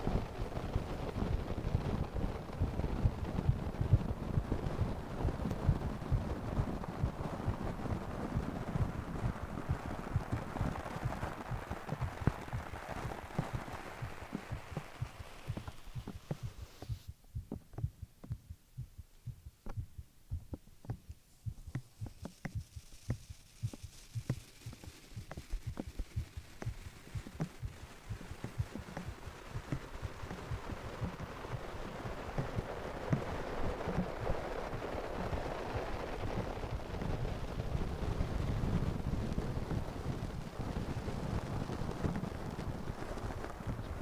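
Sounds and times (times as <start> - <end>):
heartbeat thumps: 0.0 - 44.0
soft rushing noise: 0.0 - 44.0.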